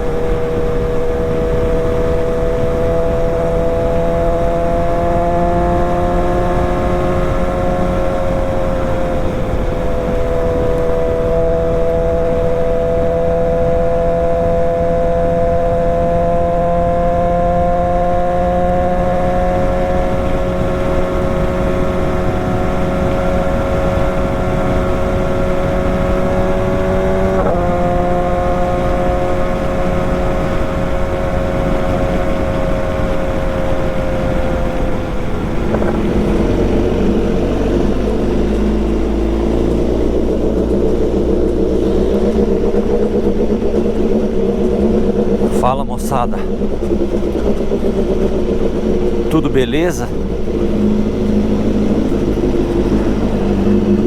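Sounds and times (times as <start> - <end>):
constant rush of noise: 0.0 - 54.0
motorcycle engine running: 0.0 - 54.0.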